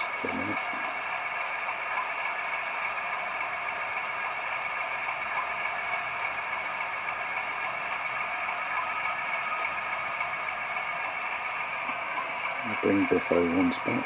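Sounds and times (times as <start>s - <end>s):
diesel engine idle through small speaker: 0.0s - 14.0s.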